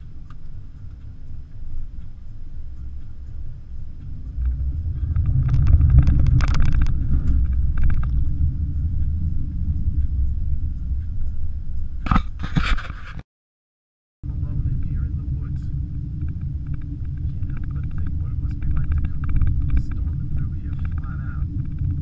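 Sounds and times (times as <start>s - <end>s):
car cabin rumble: 0.0s - 12.9s, 14.3s - 22.0s.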